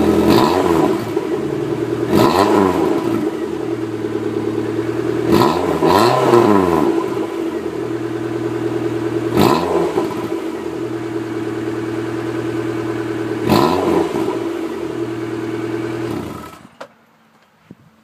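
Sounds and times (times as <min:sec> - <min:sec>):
car engine idling and revving: 0:00.0 - 0:16.8.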